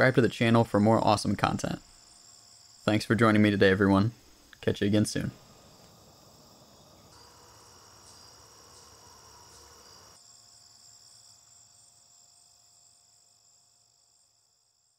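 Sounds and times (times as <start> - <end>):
crickets chirping: 0.0 - 14.9.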